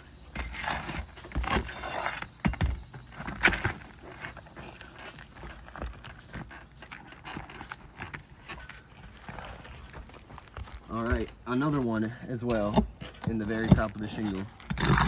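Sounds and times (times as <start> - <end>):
metal bar scraping under shingles: 0.0 - 15.0.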